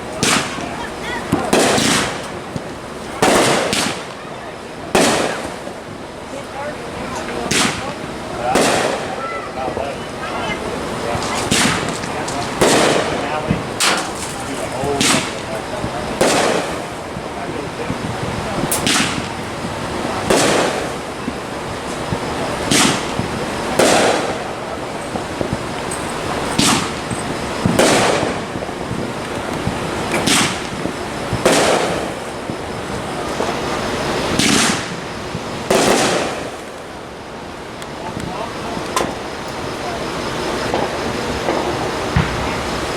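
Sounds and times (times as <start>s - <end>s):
fireworks bangs: 0.0s - 42.9s
steady background hiss: 0.0s - 42.9s.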